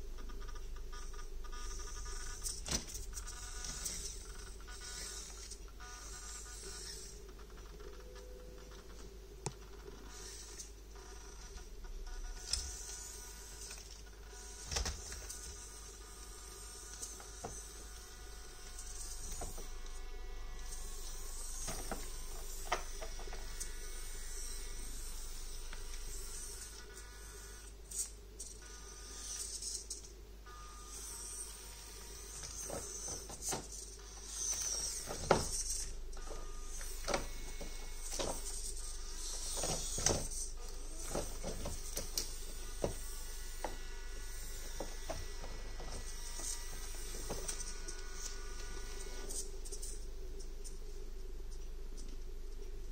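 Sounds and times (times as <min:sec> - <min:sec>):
small gear motor whining: 0:00.0 - 0:50.8.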